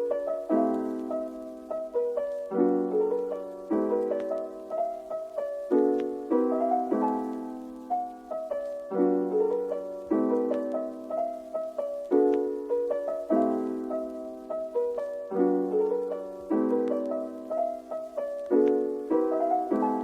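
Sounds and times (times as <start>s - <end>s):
gentle piano piece: 0.0s - 20.0s.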